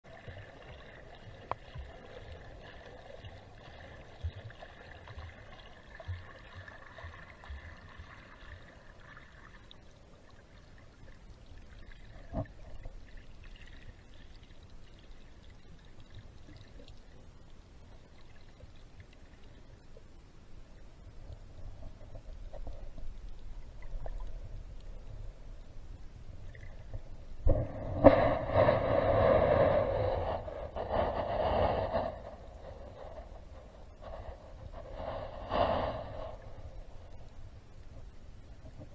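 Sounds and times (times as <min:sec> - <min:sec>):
muffled underwater rumble and sloshing: 0:00.0 - 0:38.9.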